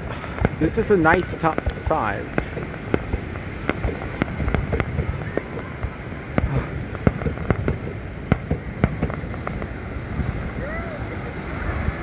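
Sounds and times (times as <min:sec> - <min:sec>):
fireworks popping and cracking: 0:00.0 - 0:12.0.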